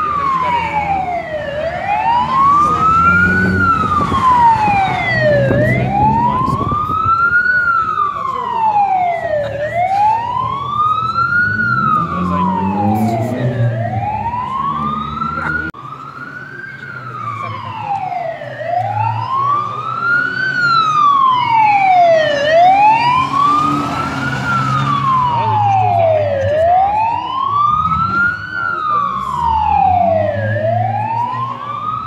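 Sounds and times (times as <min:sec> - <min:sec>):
siren wailing: 0:00.0 - 0:32.0.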